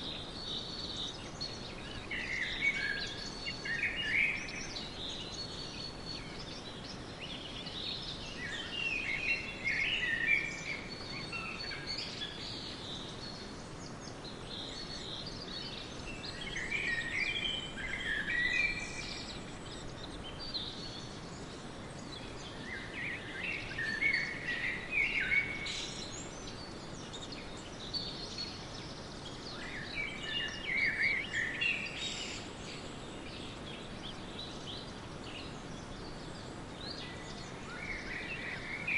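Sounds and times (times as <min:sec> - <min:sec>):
outdoor ambience hiss: 0:00.0 - 0:38.9
songbirds chirping: 0:00.0 - 0:38.9.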